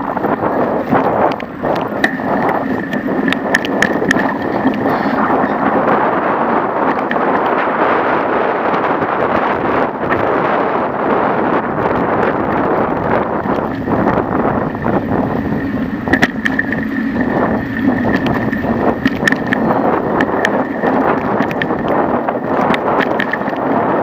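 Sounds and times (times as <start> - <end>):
bicycle tyre rumble and rattling: 0.0 - 24.0
thin steady whine: 0.0 - 24.0
wind buffeting microphone: 0.0 - 24.0.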